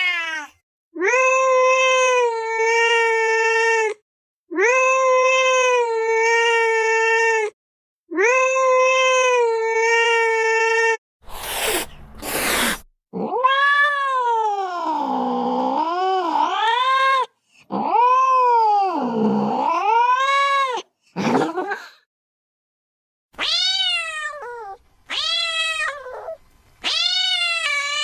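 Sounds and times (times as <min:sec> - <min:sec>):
cat meowing and yowling: 0:00.0 - 0:11.7, 0:12.3 - 0:20.9, 0:23.4 - 0:28.0.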